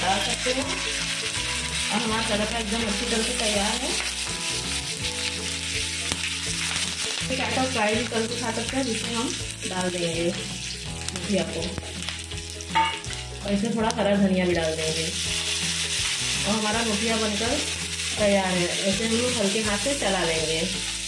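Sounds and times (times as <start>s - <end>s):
background music: 0.0s - 21.0s
seeds sizzling in hot oil: 0.0s - 21.0s.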